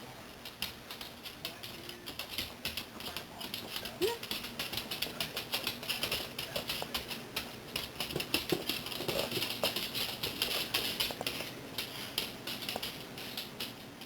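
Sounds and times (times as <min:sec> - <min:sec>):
dog claws clicking on hard floor: 0:00.4 - 0:14.0.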